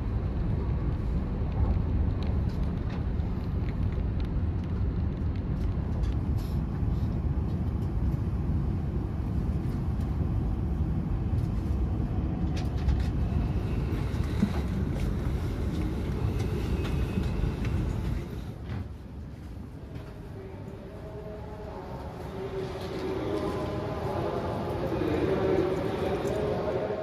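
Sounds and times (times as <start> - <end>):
train running noise from inside: 0.0 - 27.0.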